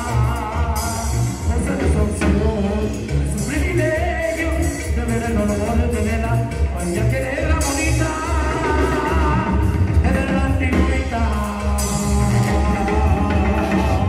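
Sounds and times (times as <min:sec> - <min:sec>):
heavy pulsing bass: 0:00.0 - 0:14.0
lead singer: 0:00.0 - 0:14.0
live band music: 0:00.0 - 0:14.0.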